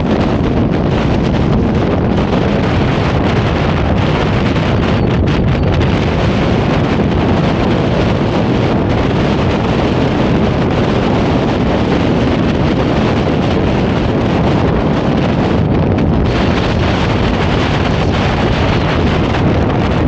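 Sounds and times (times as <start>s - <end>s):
road rumble: 0.0s - 20.0s
wind noise on microphone: 0.0s - 20.0s.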